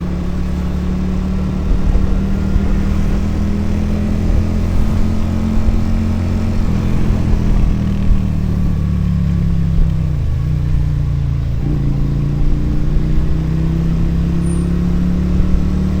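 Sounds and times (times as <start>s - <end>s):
motorcycle engine and exhaust: 0.0s - 16.0s.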